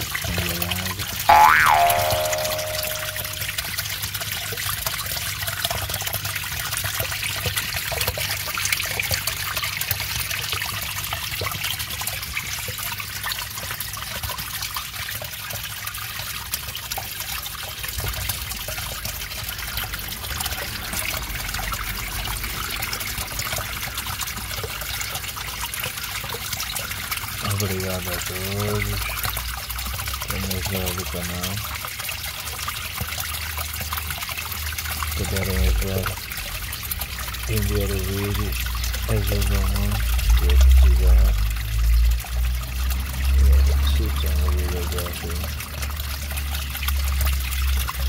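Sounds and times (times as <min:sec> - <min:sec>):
filter water trickling splash: 0:00.0 - 0:48.0.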